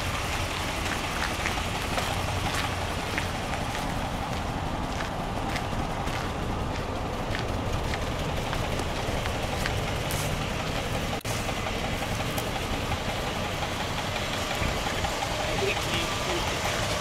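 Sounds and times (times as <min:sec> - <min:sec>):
pickup engine idling: 0:00.0 - 0:17.0.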